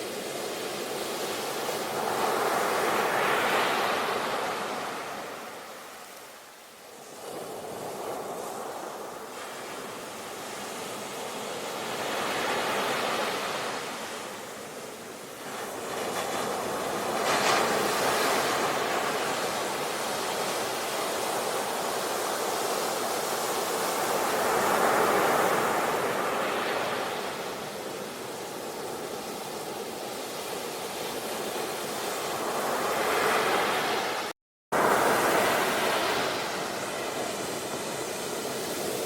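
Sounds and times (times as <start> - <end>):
waves breaking on shore: 0.0 - 39.0.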